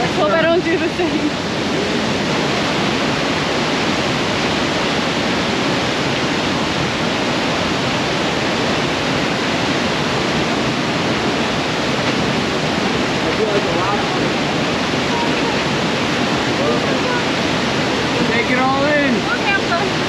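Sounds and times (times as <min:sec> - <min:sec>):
whitewater pouring over rocks: 0:00.0 - 0:20.0.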